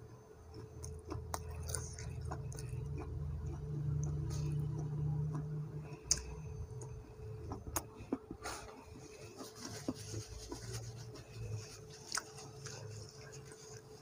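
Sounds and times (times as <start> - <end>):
person chewing food: 0.4 - 14.0.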